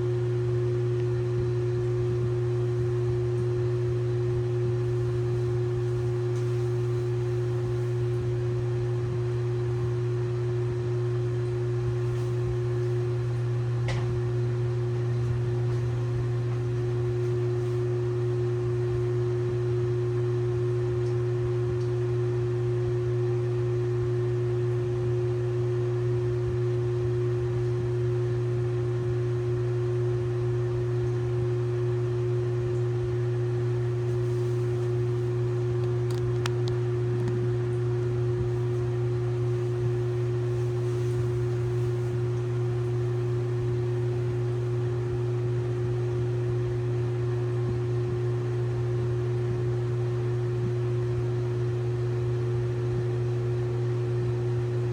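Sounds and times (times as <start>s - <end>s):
washing machine humming: 0.0s - 54.9s.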